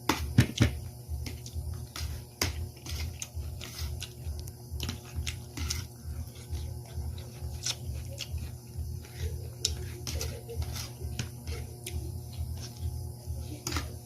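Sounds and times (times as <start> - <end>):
rhythmic chewing: 0.0 - 14.0
utensils clicking on a plate: 1.3 - 14.0.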